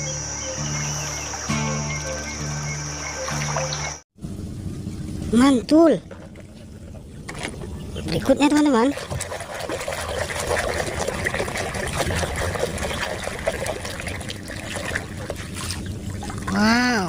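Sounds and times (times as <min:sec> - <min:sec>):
water trickling and splattering: 0:01.2 - 0:04.0, 0:05.6 - 0:17.0.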